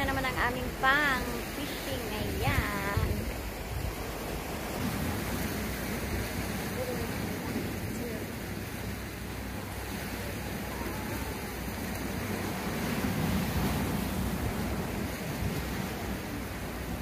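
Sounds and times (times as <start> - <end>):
surf breaking over rocks: 0.0 - 17.0.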